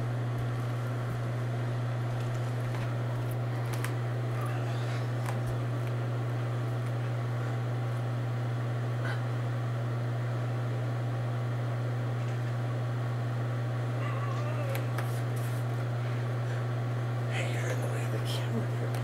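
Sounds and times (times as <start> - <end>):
low hum with hiss: 0.0 - 19.0.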